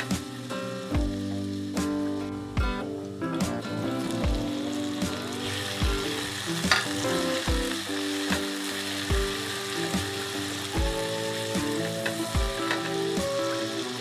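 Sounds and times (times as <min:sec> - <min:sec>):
background music with steady beat: 0:00.0 - 0:14.0
tomatoes sizzling in hot oil: 0:00.0 - 0:14.0.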